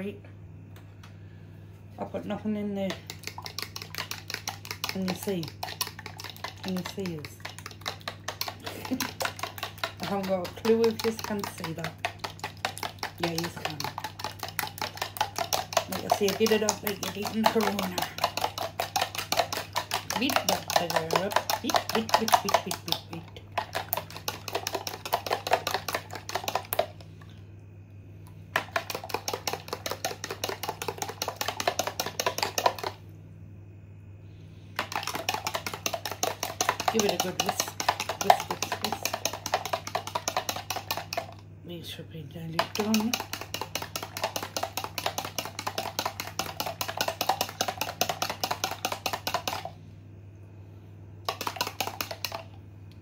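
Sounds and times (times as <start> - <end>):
fork beating eggs in plastic bowl: 2.2 - 27.2, 28.5 - 33.0, 34.8 - 41.4, 42.4 - 49.8, 51.2 - 52.6.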